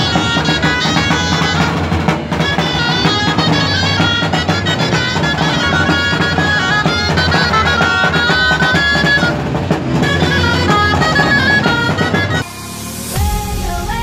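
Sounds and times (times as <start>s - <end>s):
snare drum beating: 0.0s - 12.4s
shawm playing folk tune: 0.0s - 12.8s.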